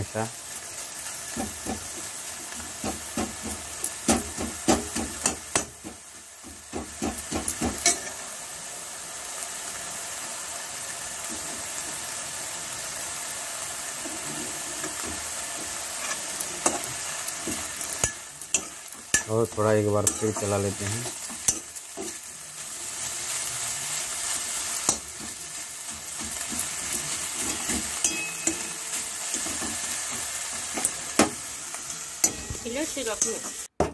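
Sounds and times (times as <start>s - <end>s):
leaves sizzling in a pan: 0.0s - 33.8s.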